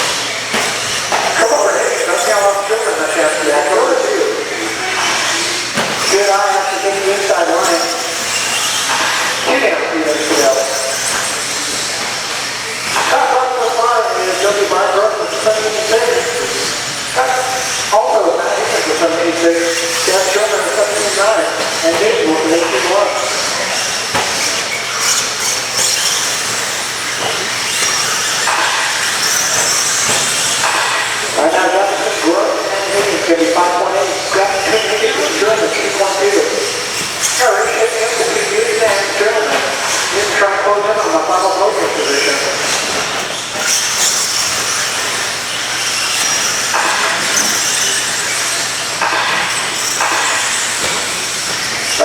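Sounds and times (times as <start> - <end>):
rc trucks whining motors: 0.0 - 52.0.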